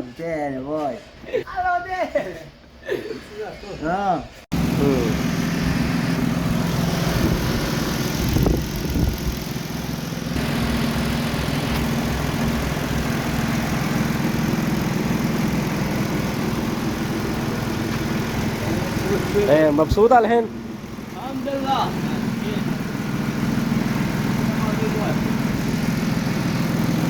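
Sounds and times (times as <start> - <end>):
car engine idling: 4.6 - 27.0.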